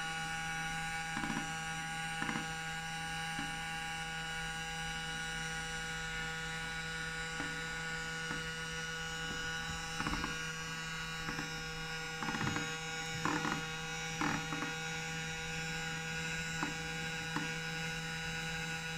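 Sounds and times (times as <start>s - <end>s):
robot vacuum motor hum and whine: 0.0s - 18.9s.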